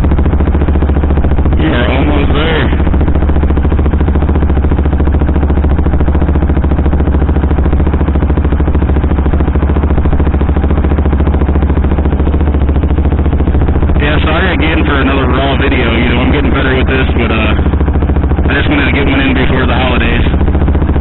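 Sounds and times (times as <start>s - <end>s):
motorcycle engine pulling: 0.0s - 21.0s.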